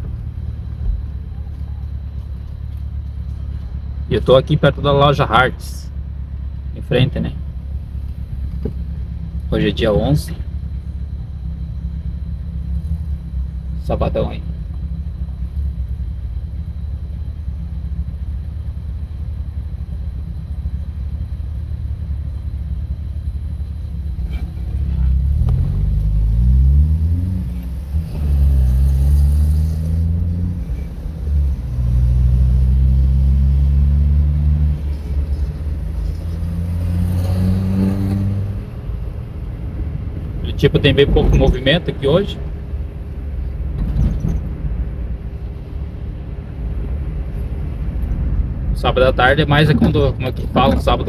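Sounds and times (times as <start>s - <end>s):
car engine from inside cabin: 0.0s - 51.0s.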